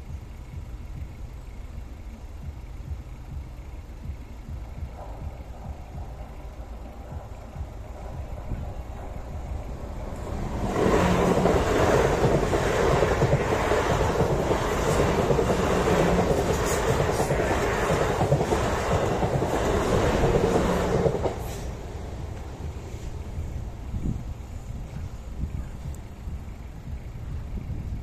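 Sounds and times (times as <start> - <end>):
clicking train wheels: 0.0 - 28.0
train passing at speed: 2.2 - 28.0.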